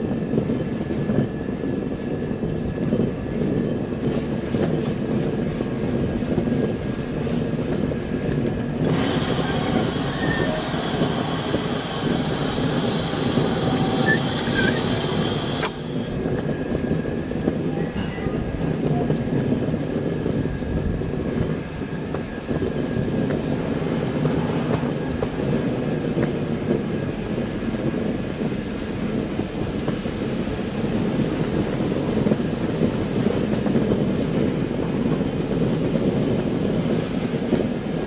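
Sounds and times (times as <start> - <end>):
steam train rumble: 0.0 - 38.0.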